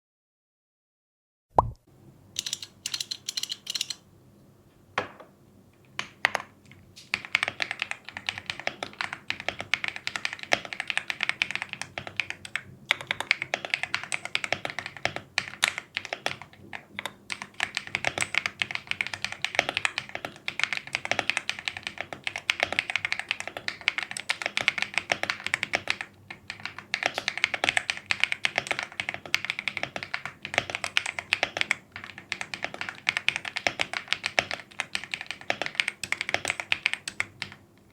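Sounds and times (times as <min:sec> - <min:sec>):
mechanical keyboard typing: 0:02.4 - 0:04.0, 0:07.1 - 0:37.9.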